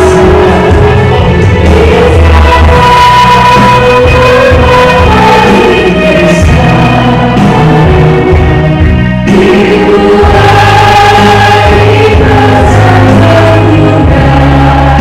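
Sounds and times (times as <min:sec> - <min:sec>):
band accompaniment with bass: 0:00.0 - 0:15.0
group singing: 0:00.0 - 0:15.0.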